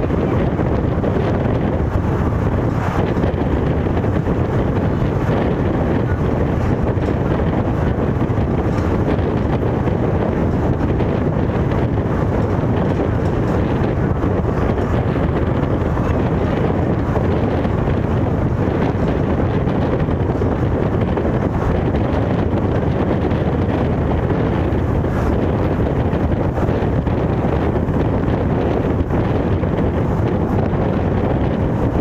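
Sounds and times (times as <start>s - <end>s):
moving train rumble: 0.0s - 32.0s
wind buffeting microphone: 0.0s - 32.0s.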